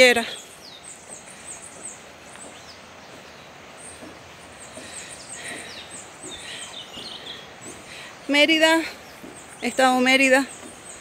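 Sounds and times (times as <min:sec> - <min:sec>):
background hiss: 0:00.0 - 0:11.0
birds chirping: 0:00.0 - 0:11.0.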